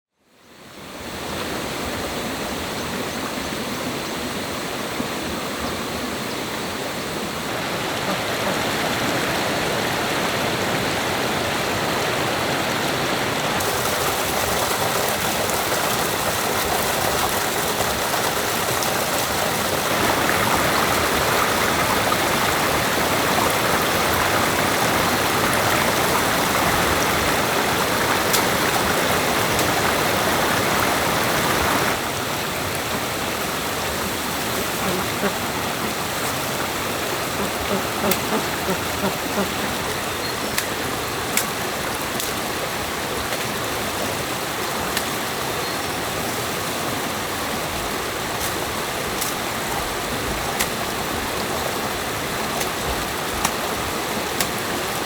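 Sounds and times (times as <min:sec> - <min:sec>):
stream water rushing: 0:00.5 - 0:55.0.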